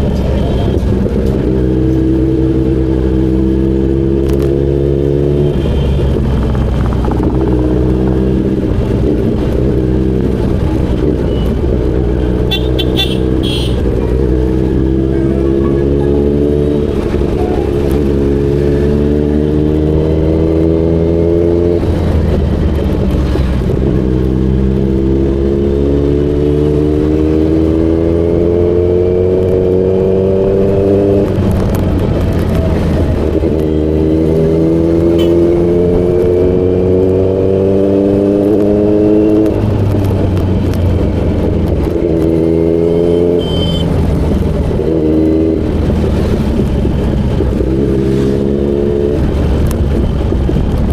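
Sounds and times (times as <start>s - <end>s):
motorcycle engine accelerating: 0.7s - 50.9s.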